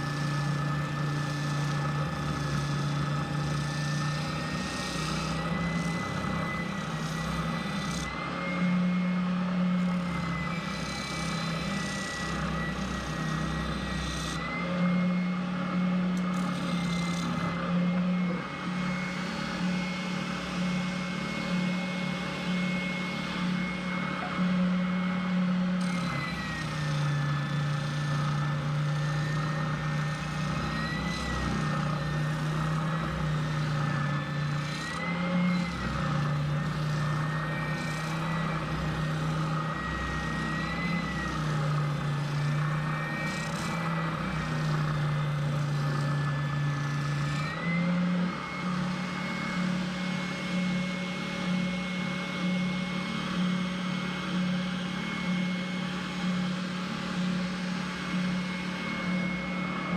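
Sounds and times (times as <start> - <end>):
router motor running: 0.0 - 59.9.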